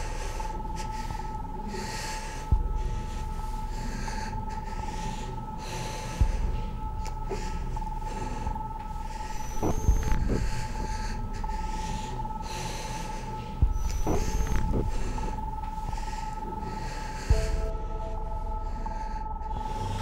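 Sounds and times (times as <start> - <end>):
low rumble: 0.0 - 20.0
person breathing heavily: 0.0 - 20.0
steady high drone: 0.0 - 20.0.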